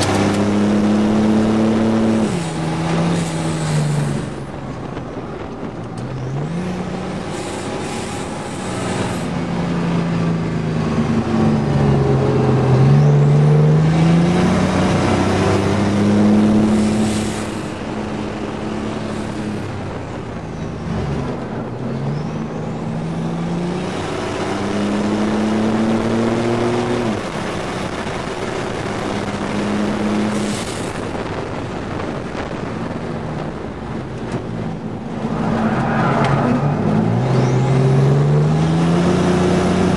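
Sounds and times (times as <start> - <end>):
turbocharged engine revving: 0.0 - 39.9.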